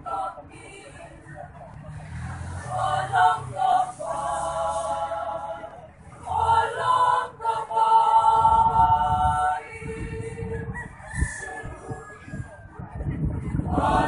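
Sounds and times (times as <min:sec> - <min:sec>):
choir singing in parts: 0:00.0 - 0:01.1, 0:02.4 - 0:12.4, 0:13.5 - 0:14.0.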